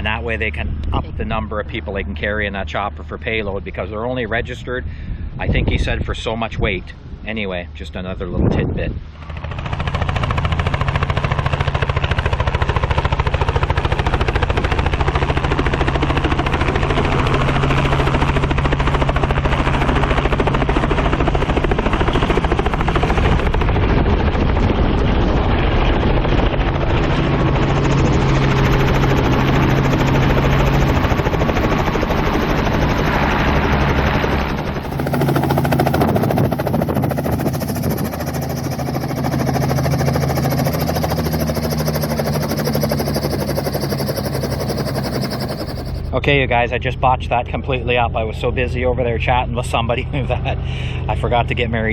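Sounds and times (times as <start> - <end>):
helicopter rotor chop and turbine: 0.0 - 51.9.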